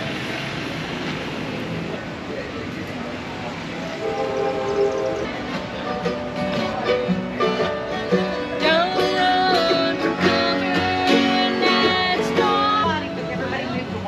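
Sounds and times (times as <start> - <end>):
acoustic bluegrass string band: 0.0 - 14.0.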